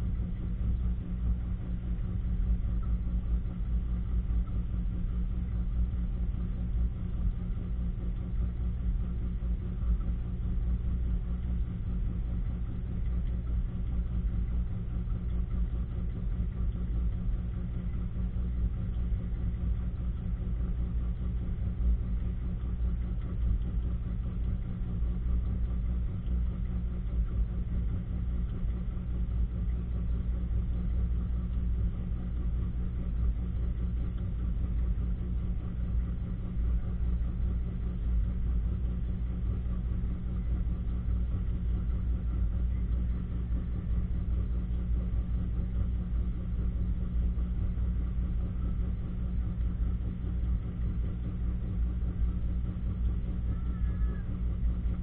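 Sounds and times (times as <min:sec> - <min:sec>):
washing machine motor hum: 0:00.0 - 0:55.0.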